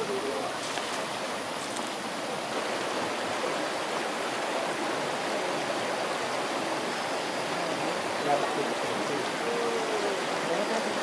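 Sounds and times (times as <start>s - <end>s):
river rushing over stones: 0.0s - 11.0s.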